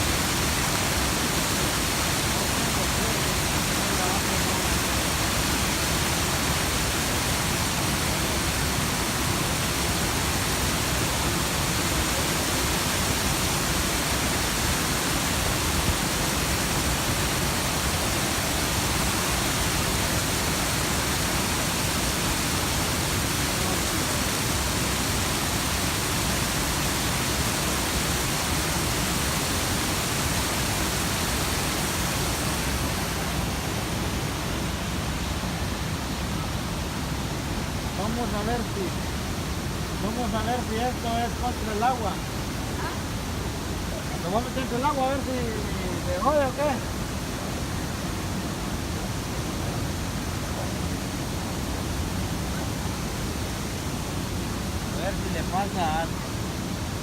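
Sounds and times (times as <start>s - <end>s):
creek water flowing: 0.0s - 57.0s.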